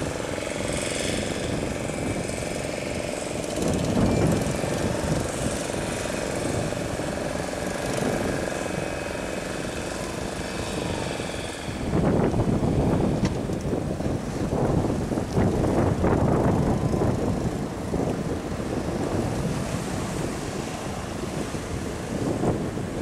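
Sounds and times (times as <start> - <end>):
breaking surf: 0.0 - 23.0
outboard motor running: 0.0 - 23.0.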